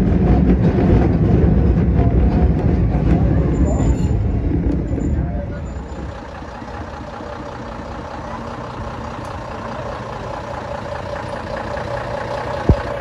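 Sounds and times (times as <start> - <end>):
heavy vehicle engine idling: 0.0 - 13.0.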